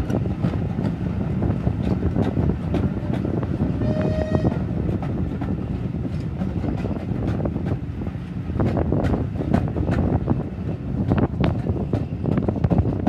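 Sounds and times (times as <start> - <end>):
wheels rumbling on rails: 0.0 - 13.0.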